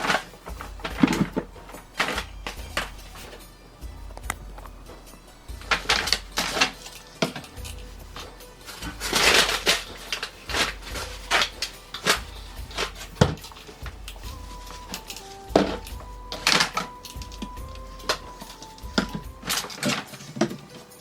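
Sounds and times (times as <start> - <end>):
background music: 0.0 - 21.0
bottles knocking and clattering: 0.0 - 21.0.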